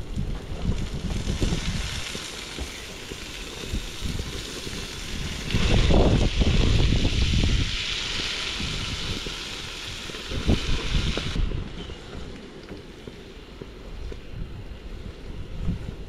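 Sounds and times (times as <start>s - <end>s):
steady hiss: 0.0s - 16.0s
wind gusting against microphone: 0.0s - 16.0s.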